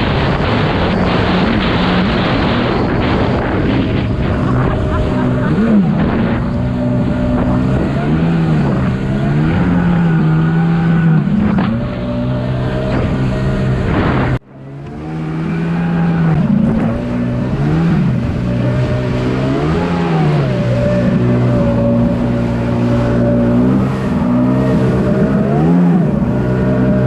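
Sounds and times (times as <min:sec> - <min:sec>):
jet ski engine revving: 0:00.0 - 0:27.0.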